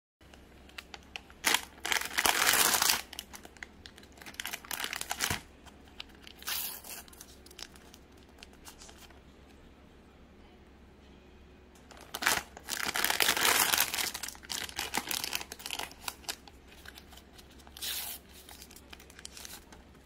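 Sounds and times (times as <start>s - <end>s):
plastic wrapper tearing and crinkling: 0.6s - 9.1s, 11.9s - 19.8s.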